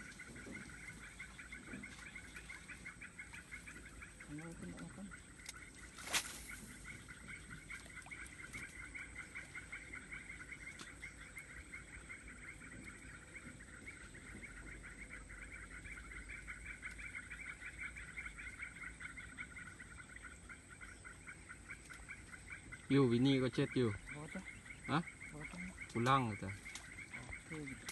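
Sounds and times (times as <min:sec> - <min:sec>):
chorus of pulsing animal trills: 0:00.0 - 0:27.9.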